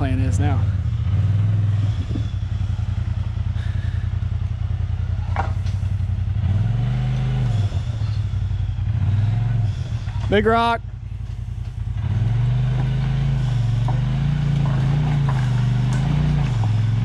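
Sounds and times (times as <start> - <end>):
off-road vehicle engine idling and revving: 0.0 - 17.0.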